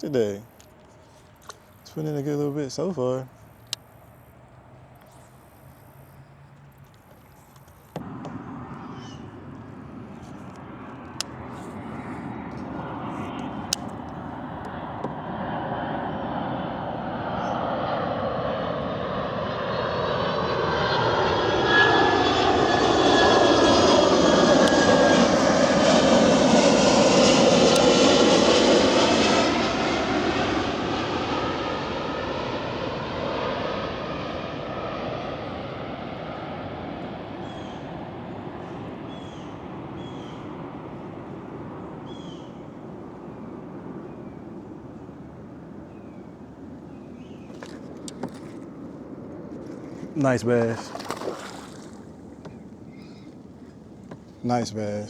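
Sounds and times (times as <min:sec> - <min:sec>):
airplane engine drone: 0:00.0 - 0:55.0.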